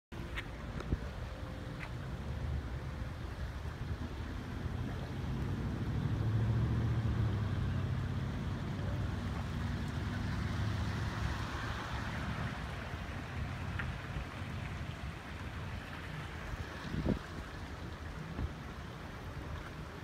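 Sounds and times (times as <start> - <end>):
engine humming: 0.1 - 20.0
hiss of water or rain: 0.9 - 20.0.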